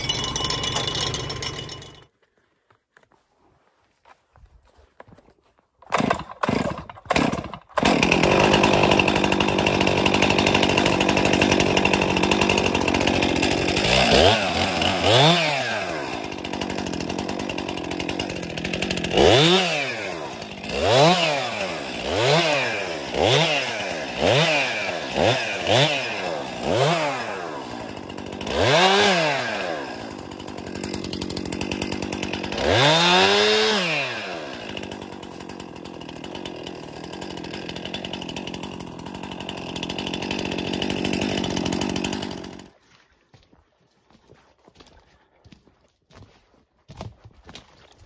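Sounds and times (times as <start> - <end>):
chainsaw engine revving: 0.0 - 2.1, 5.9 - 42.8.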